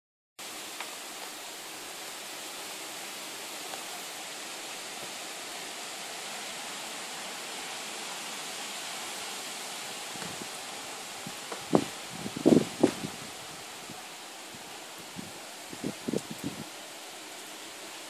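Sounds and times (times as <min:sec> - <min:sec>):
heavy rain on pavement and foliage: 0:00.4 - 0:18.0.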